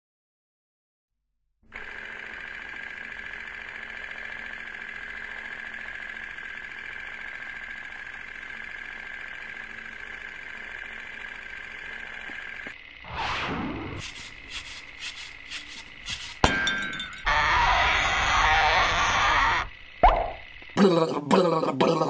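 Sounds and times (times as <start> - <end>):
steady mechanical whirr: 1.7 - 16.4, 17.2 - 20.8.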